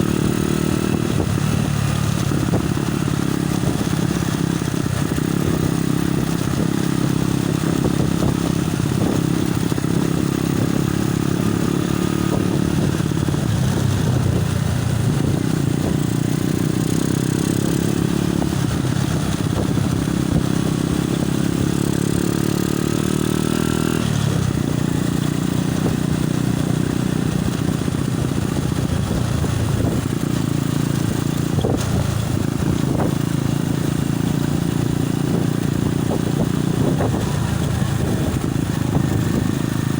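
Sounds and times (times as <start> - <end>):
wind buffeting microphone: 0.0 - 22.9, 23.6 - 39.9
motorcycle engine running: 0.0 - 39.9.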